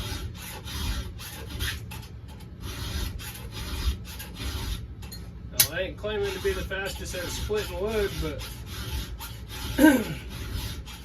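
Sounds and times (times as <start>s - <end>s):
file rasping on chainsaw chain: 0.0s - 4.8s, 5.6s - 11.0s.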